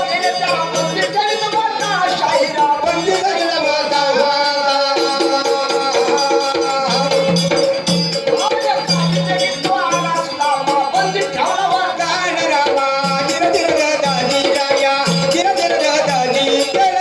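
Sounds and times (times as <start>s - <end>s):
rattling percussion: 0.0s - 17.0s.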